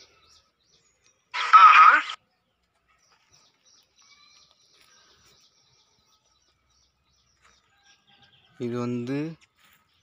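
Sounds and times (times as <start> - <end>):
faint bird chirps: 0.0 - 8.6.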